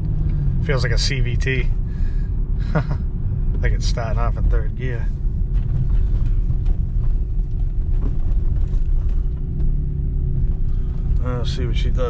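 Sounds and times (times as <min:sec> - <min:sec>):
car engine and road noise inside cabin: 0:00.0 - 0:12.0.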